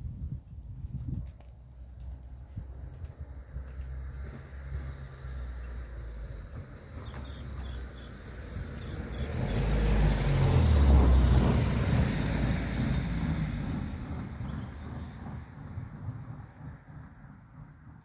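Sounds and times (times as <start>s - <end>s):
vehicle passing rumble: 1.7s - 18.0s.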